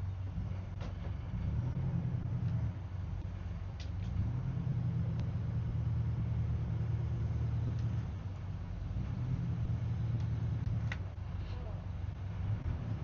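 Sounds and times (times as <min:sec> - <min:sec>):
yacht engines droning: 0:00.0 - 0:13.0.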